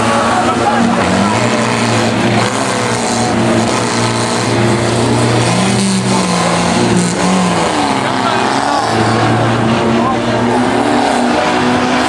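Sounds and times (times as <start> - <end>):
racing car engines revving: 0.0 - 12.0.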